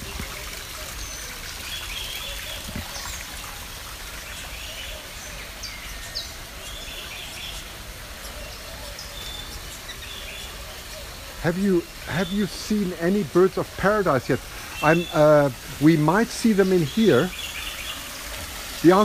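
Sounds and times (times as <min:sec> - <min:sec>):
birds chirping and calling: 0:00.0 - 0:19.0
steady background hiss: 0:00.0 - 0:19.0.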